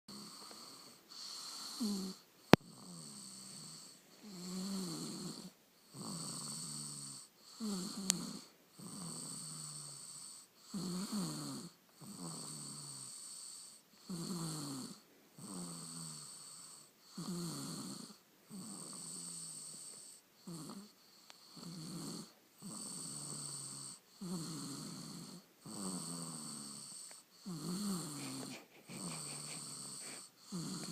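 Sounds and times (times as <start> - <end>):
snoring: 0.1 - 30.9.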